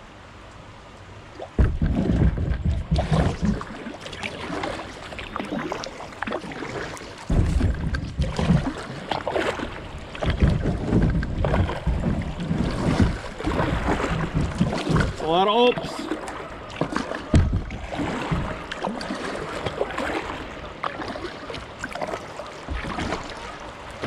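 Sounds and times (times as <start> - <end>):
kayak hull scraping over rocks: 1.6 - 24.0.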